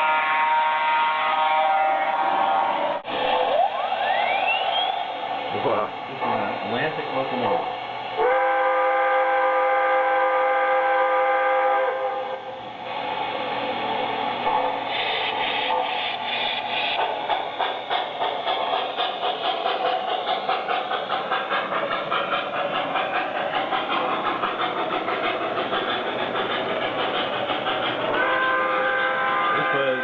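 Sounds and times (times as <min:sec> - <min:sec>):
model train steam chuffing: 0:05.1 - 0:30.0.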